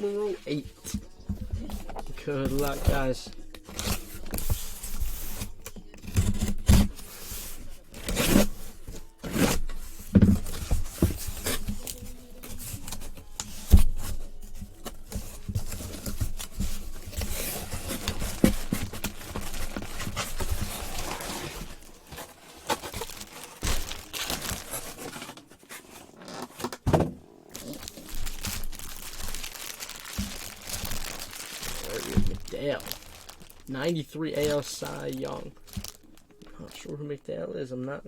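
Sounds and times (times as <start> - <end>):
plastic wrapping crinkling and tearing: 0.0 - 26.8, 27.4 - 37.2
cardboard packaging handled: 0.0 - 36.9.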